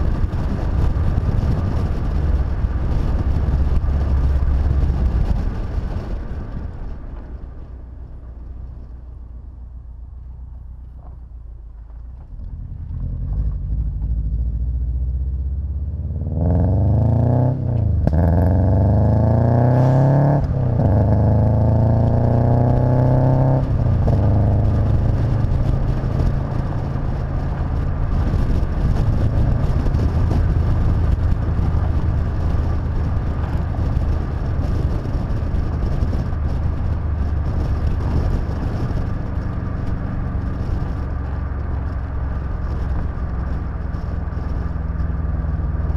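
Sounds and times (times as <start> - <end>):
car engine accelerating: 0.0 - 45.9
road and wind noise in car: 0.0 - 45.9.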